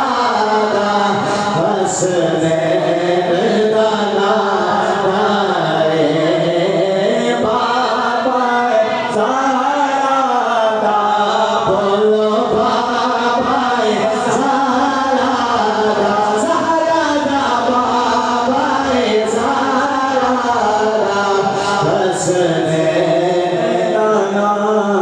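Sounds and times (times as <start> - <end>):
person chanting devotional poetry: 0.0 - 25.0.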